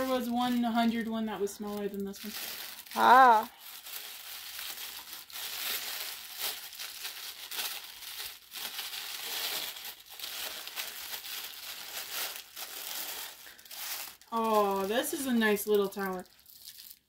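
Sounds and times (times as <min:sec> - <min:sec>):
paper wrapping crinkling: 0:00.0 - 0:17.0.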